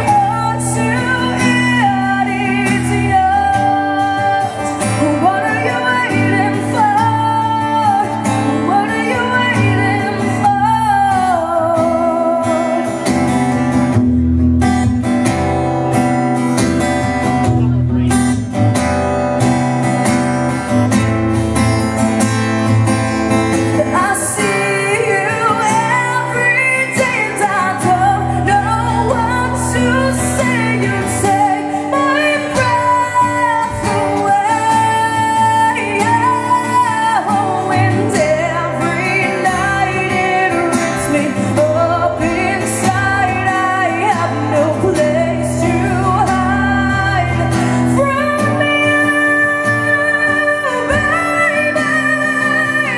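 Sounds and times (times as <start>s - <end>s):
woman singing: 0.0s - 13.8s, 23.3s - 52.9s
strummed acoustic guitar: 0.0s - 52.9s.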